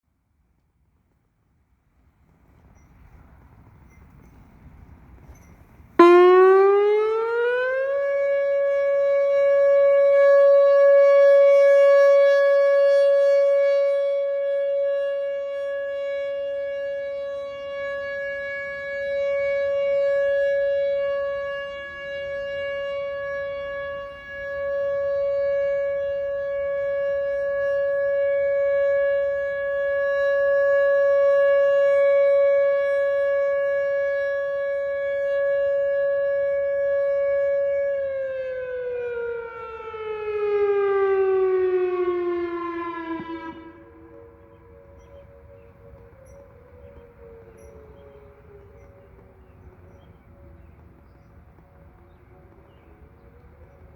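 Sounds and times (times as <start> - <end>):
tornado warning siren: 1.6 - 53.9.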